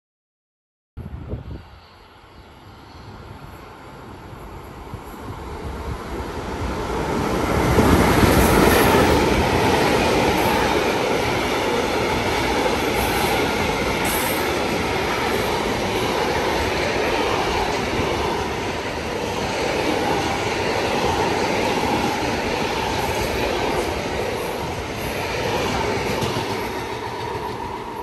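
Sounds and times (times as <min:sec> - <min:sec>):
freight train passing: 0:01.0 - 0:28.0.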